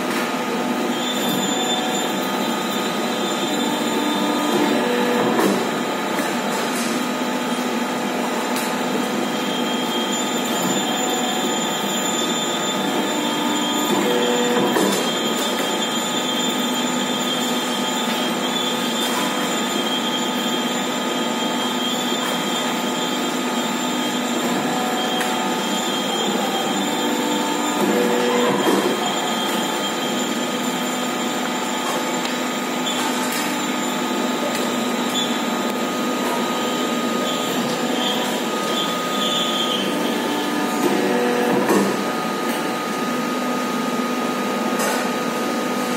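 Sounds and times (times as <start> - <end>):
hydraulic pump whining: 0.5 - 7.4, 8.0 - 43.3.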